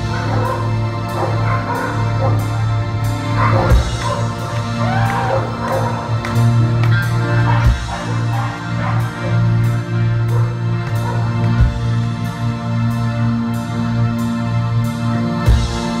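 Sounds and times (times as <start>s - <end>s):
keyboards: 0.0s - 16.0s
rock band playing: 0.0s - 16.0s
sustained bass line: 0.0s - 16.0s.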